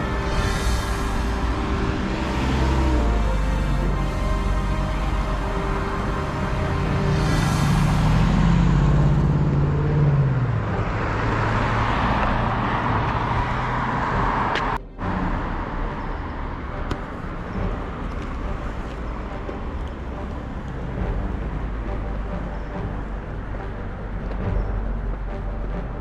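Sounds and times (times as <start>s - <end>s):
car engine pulling away: 0.0s - 26.0s
tyre noise of passing cars: 0.0s - 26.0s.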